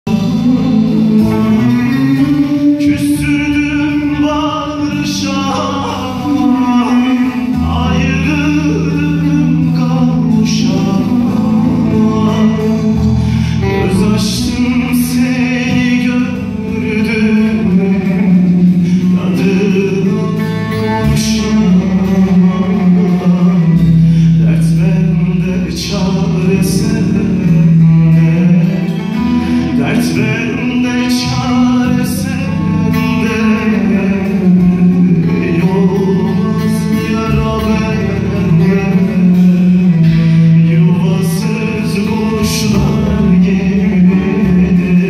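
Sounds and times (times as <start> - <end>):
bass guitar: 0.0 - 45.0
man singing: 0.0 - 45.0.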